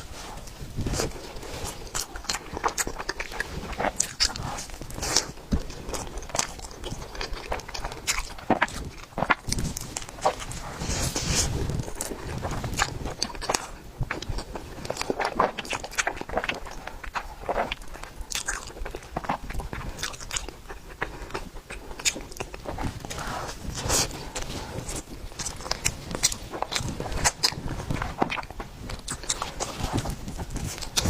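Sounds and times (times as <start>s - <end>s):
biting and chewing: 0.0s - 31.0s.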